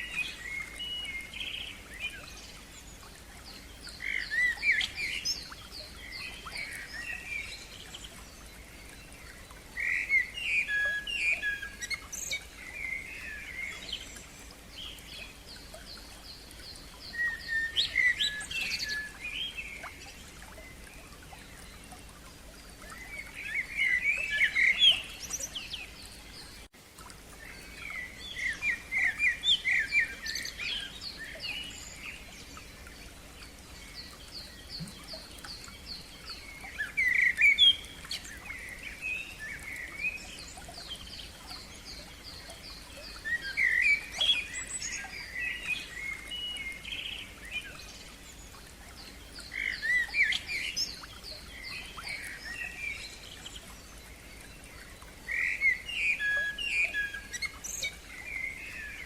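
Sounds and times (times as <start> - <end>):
songbirds twittering: 0.0 - 59.0.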